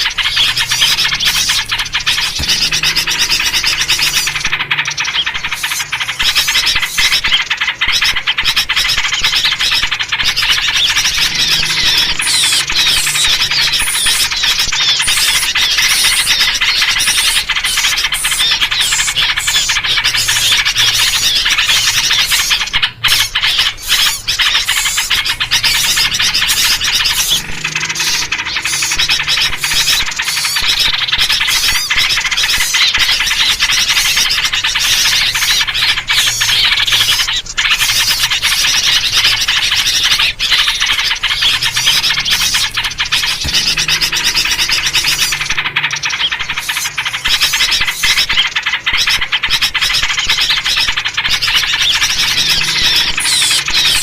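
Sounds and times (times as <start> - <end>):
downward-slurring bird calls: 0.0 - 54.0
small birds chattering and chirping: 0.0 - 54.0.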